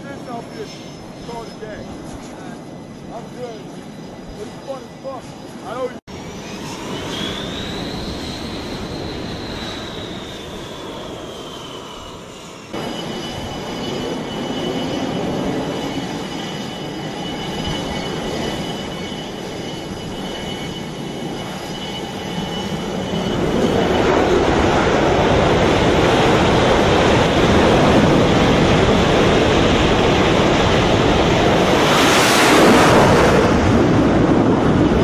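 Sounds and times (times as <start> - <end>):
jet engine noise: 0.0 - 35.0
jet engine whine: 0.0 - 35.0.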